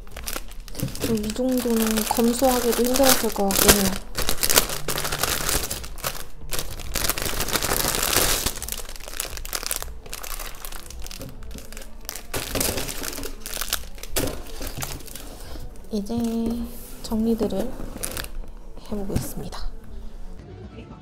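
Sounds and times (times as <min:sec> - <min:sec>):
packaging crinkling and rustling: 0:00.0 - 0:20.3.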